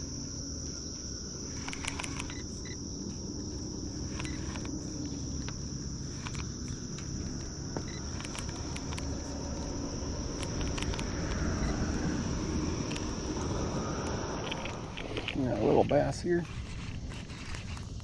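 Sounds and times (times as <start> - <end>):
low rumble: 0.0 - 15.4
insects trilling: 0.0 - 18.0.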